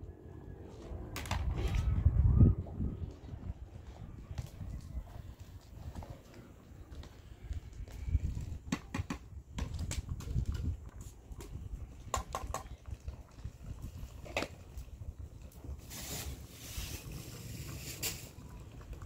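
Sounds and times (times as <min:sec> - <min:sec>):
wind rumble on microphone: 0:00.0 - 0:15.8.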